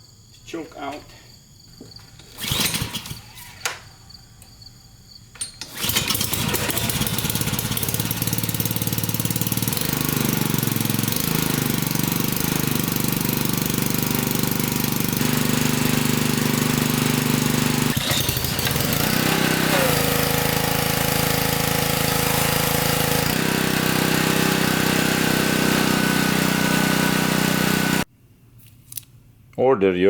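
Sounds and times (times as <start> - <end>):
small gasoline engine pull-started: 2.2 - 3.9, 5.4 - 28.1.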